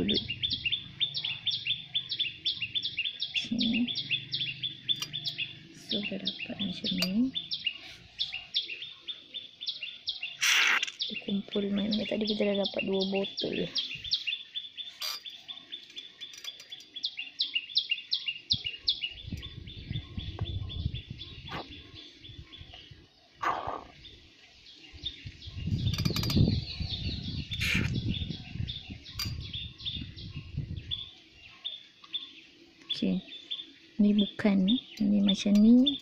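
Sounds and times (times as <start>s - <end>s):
bird chirping: 0.0s - 36.0s.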